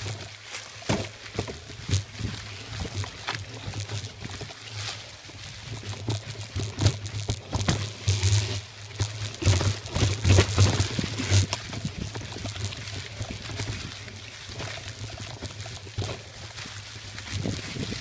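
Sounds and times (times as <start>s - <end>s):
bike knocking and rattling: 0.0s - 18.0s
bike tyres rolling over dry leaves: 0.0s - 18.0s.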